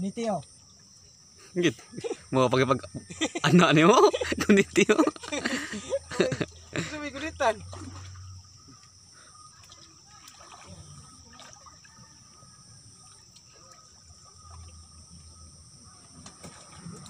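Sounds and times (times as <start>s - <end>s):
small ticks and splashes: 0.0s - 17.0s
water trickling and sloshing: 0.0s - 17.0s.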